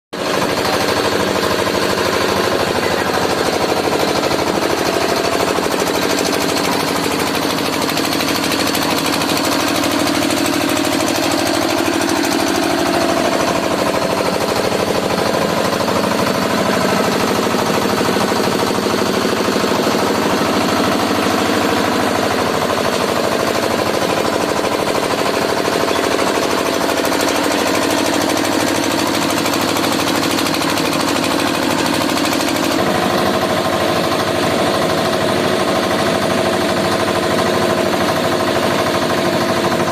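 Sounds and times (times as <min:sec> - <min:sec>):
concrete mixer engine chugging: 0:00.1 - 0:39.9.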